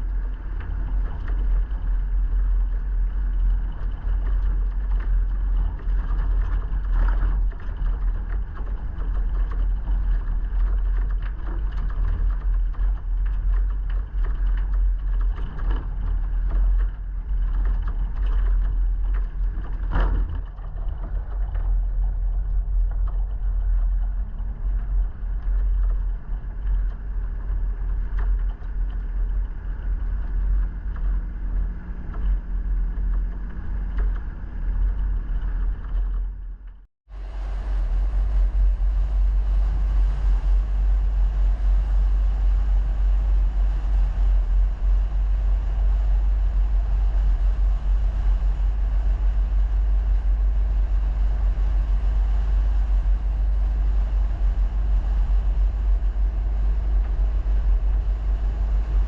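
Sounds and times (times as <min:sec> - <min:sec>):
vehicle rumbling: 0:00.0 - 0:59.0.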